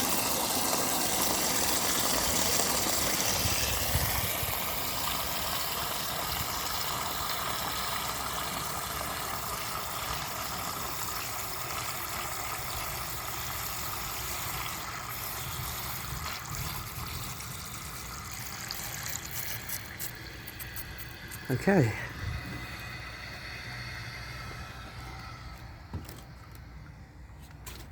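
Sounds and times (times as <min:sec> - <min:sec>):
water running in toilet cistern: 0:00.0 - 0:25.8.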